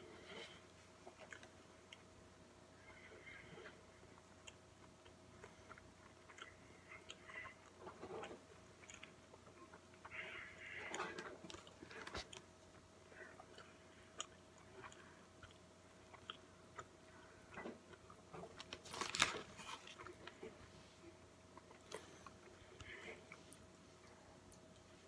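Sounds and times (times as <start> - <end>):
person chewing with crunches: 0.1 - 2.2, 2.8 - 25.0.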